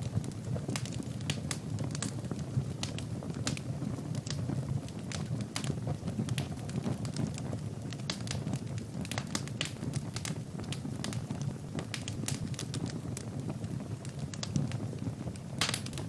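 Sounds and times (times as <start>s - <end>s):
fire pops and snaps: 0.0s - 16.0s
low rumble of flame: 0.0s - 16.0s
wood fire crackling: 0.0s - 16.0s.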